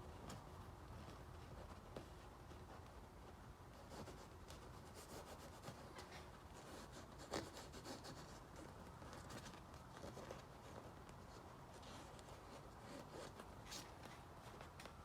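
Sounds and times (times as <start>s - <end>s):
rubbing and scratching on seat cover: 0.1s - 15.0s.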